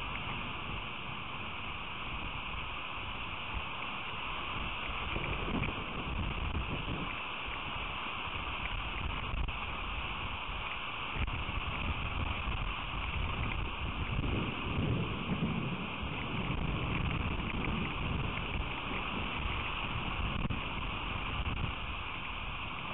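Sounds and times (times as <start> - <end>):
rain hissing and pattering: 0.0 - 22.9
wind buffeting microphone: 0.0 - 22.9.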